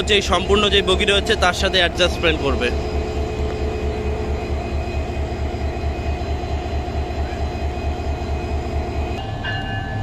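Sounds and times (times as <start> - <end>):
diesel locomotive engine rumbling: 0.0 - 10.0.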